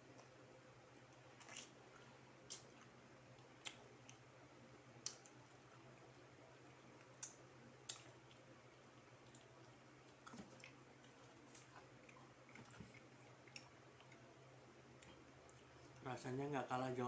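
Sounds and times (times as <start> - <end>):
chewing fried chicken: 0.0 - 16.2
faint steady hum: 0.0 - 17.0.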